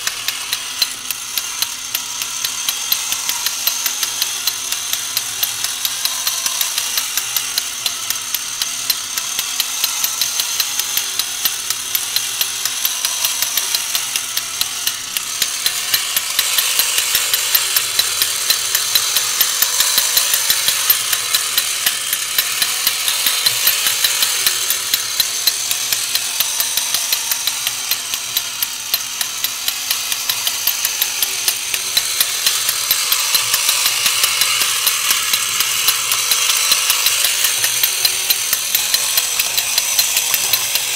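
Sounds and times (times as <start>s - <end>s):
plastic gears clattering: 0.0s - 40.9s
small electric motor whirring: 0.0s - 40.9s.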